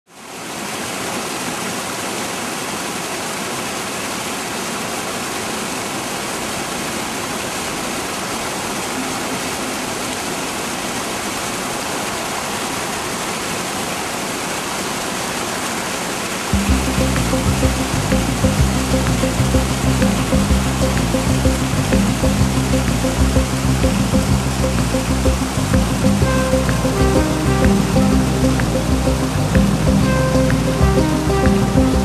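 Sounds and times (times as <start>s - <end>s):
waterfall rushing: 0.1s - 32.0s.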